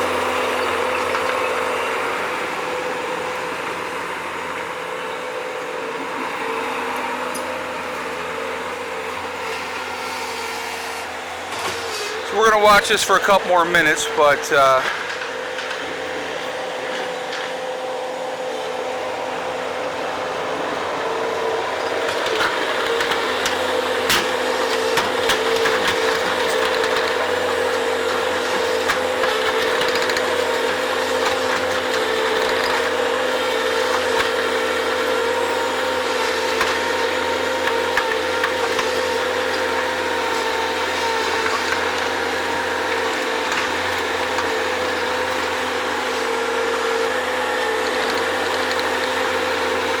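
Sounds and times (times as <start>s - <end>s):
skid steer engine whining: 0.0s - 50.0s.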